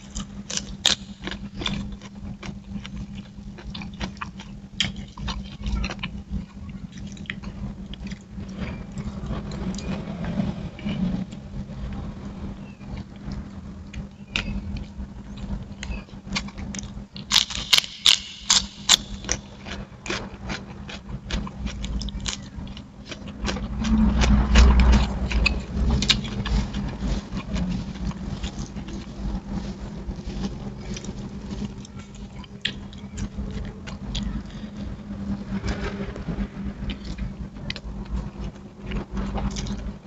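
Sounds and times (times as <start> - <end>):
low hum: 0.0 - 40.0
low rumble: 5.6 - 17.2, 18.7 - 40.0.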